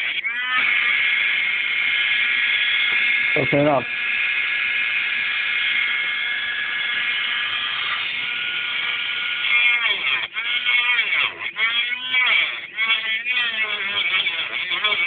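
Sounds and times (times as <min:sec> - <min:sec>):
rotary tool cutting disc whining: 0:00.0 - 0:15.0.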